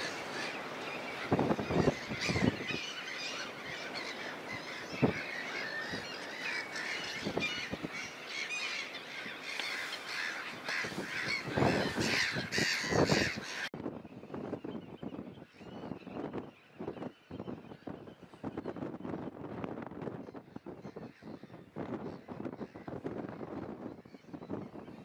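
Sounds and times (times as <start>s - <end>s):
birds chattering in chorus: 0.0s - 19.4s, 20.2s - 25.0s.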